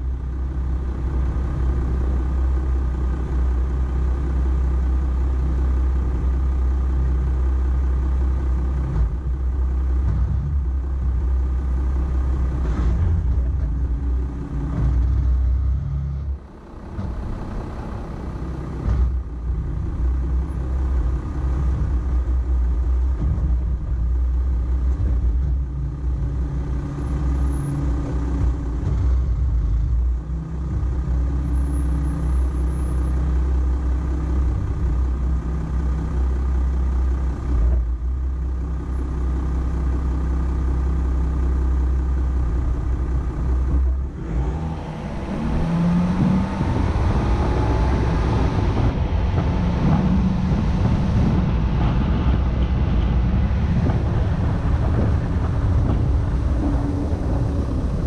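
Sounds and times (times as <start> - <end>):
pickup engine rumble: 0.0 - 58.0.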